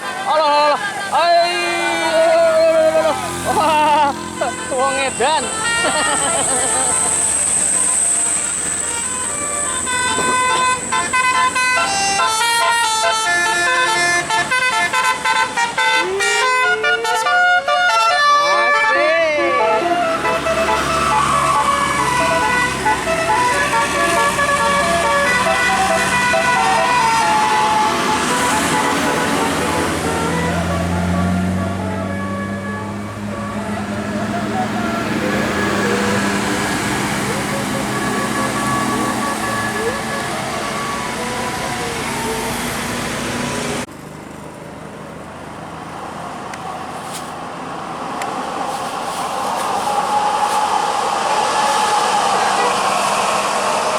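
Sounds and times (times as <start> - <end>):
multi-tone bus horn tune: 0.0 - 43.9
bus engine running: 0.0 - 53.9
vehicle approaching: 0.0 - 53.9
vehicles passing: 0.0 - 53.9.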